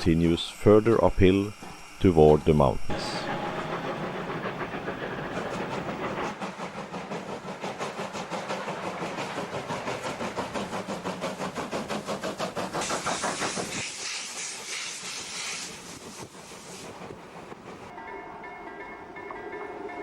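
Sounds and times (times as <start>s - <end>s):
loud steam hiss: 0.0s - 17.9s
steam locomotive exhaust beats: 0.0s - 20.0s.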